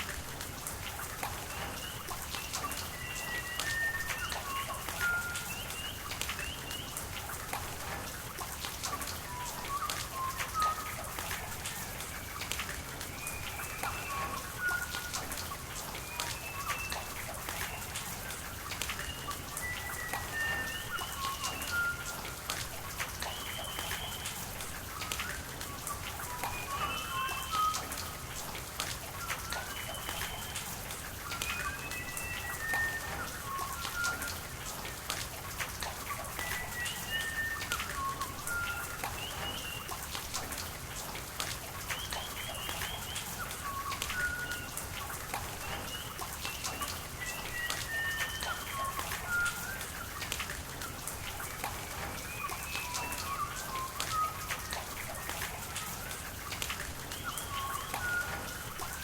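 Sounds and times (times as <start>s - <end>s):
steady rain: 0.0s - 59.0s
small birds chirping and whistling: 1.2s - 7.4s, 8.9s - 34.8s, 35.9s - 40.5s, 41.8s - 59.0s.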